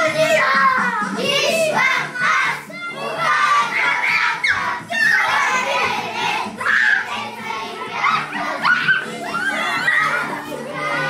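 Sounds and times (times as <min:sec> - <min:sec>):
children shouting and singing: 0:00.0 - 0:11.0
music playing: 0:00.0 - 0:11.0.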